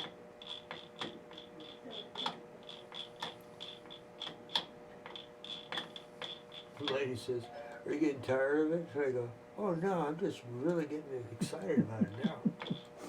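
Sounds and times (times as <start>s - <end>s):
steady low hum: 0.3s - 13.0s.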